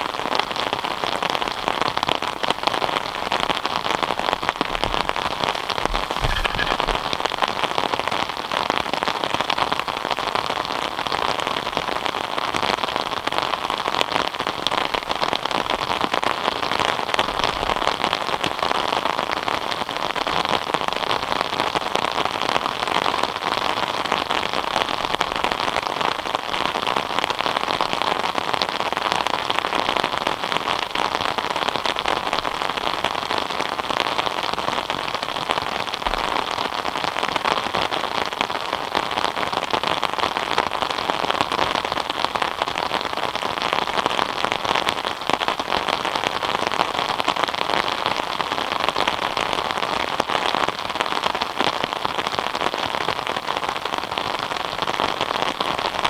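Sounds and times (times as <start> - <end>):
steady rain pattering: 0.0 - 56.0.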